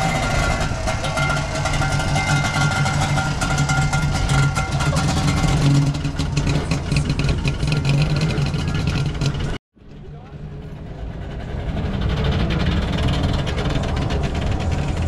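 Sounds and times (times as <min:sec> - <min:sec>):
two-stroke car engine running: 0:00.0 - 0:15.0.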